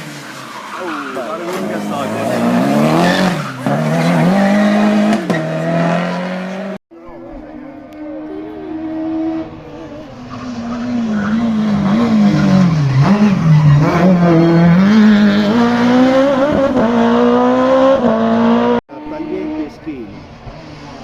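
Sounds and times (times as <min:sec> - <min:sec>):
racing car engine revving: 0:01.1 - 0:21.0.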